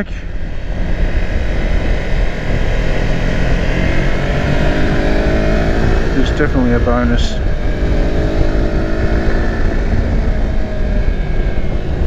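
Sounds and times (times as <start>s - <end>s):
motorcycle engine accelerating: 0.0s - 12.0s
road and wind rush: 0.0s - 12.0s.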